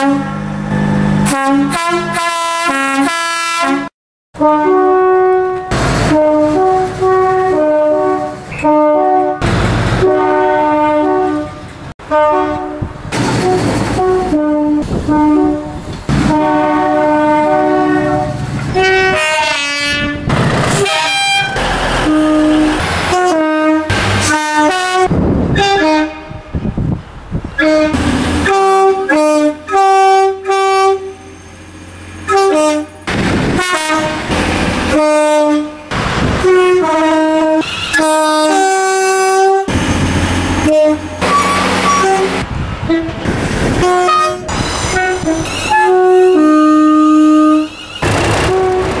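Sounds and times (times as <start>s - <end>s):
two-tone train horn blasts: 0.0s - 26.6s, 27.6s - 31.4s, 32.2s - 49.0s
trains running: 5.4s - 49.0s.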